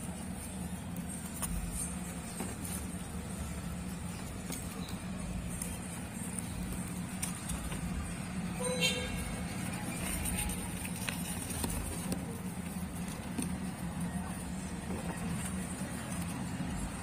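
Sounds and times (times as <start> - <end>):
low background hum and rumble: 0.0 - 17.0.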